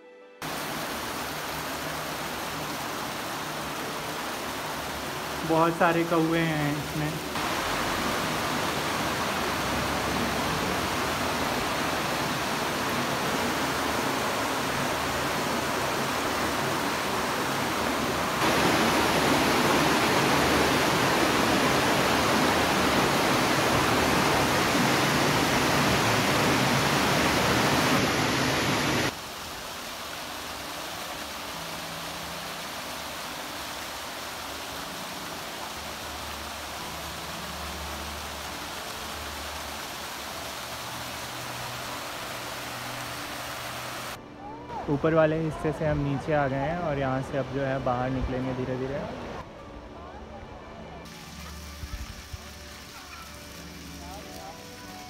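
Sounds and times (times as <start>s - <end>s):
fountain jets splashing: 0.4s - 44.2s, 51.0s - 55.0s
water rushing hiss: 0.4s - 44.2s, 51.0s - 55.0s.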